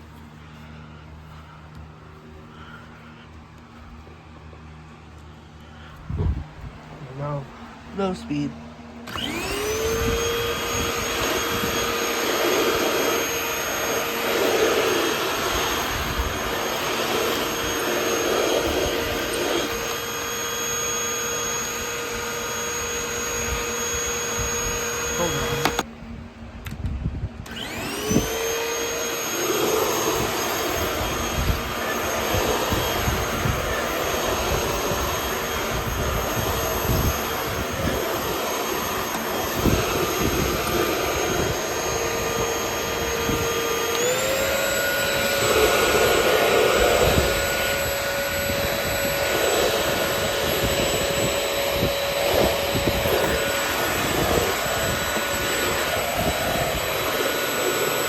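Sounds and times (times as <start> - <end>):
vacuum cleaner motor whining: 0.0 - 25.9, 27.4 - 58.0.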